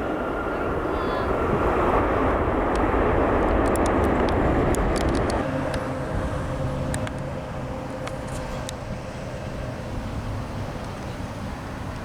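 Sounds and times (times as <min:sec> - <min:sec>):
jet airliner rushing noise: 0:00.0 - 0:12.0
jet engine whine: 0:00.0 - 0:12.0.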